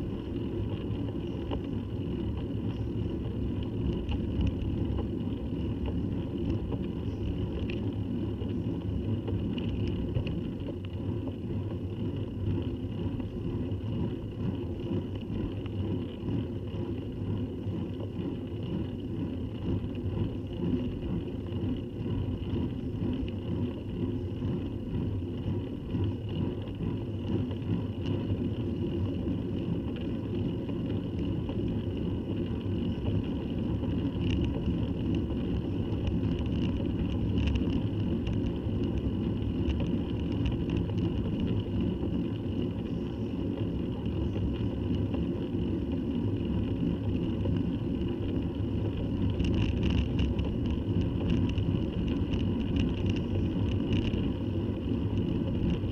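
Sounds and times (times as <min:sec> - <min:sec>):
road rumble: 0:00.0 - 0:55.9.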